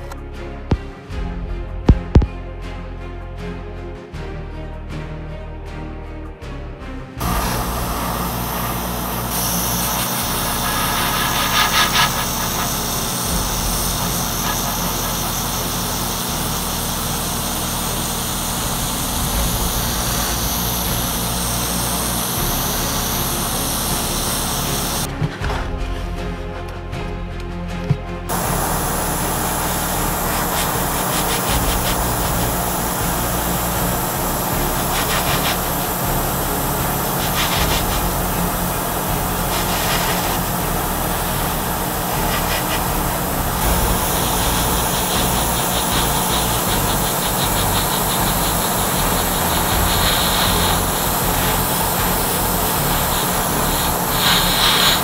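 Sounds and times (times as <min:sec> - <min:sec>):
paint sprayer hissing: 0:07.2 - 0:25.1, 0:28.3 - 0:55.0.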